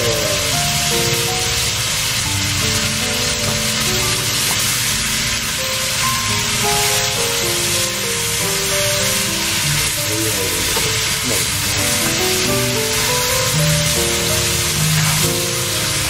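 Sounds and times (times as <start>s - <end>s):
background music: 0.0s - 16.0s
food sizzling in a frying pan: 0.0s - 16.0s
metal turner on pan: 0.0s - 16.0s.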